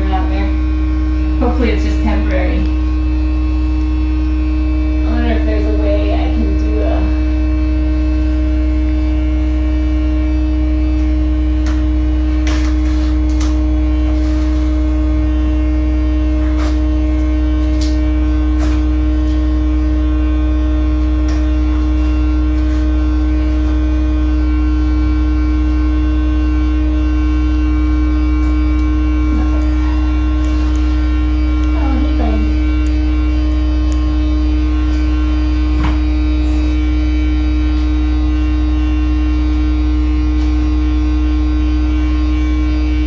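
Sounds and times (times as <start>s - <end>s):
vacuum pump droning: 0.0s - 43.0s.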